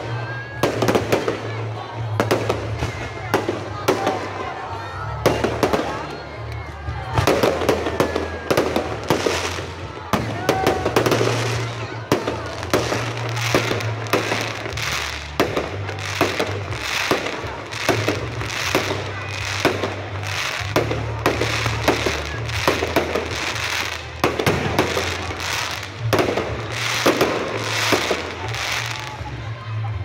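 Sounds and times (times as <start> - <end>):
fireworks bursting: 0.0 - 29.4.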